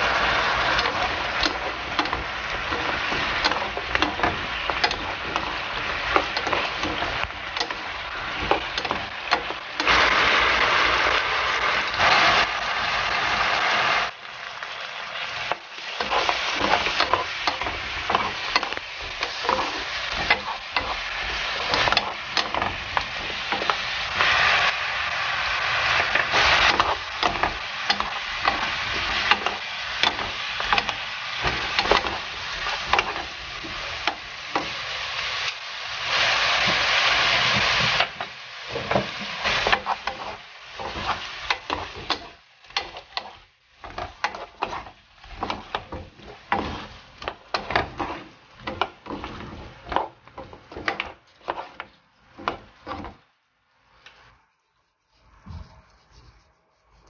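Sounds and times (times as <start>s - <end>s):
wooden spoon scraping a pan: 0.0s - 14.0s, 15.3s - 24.8s, 25.4s - 57.0s
meat sizzling in a frying pan: 0.0s - 53.2s.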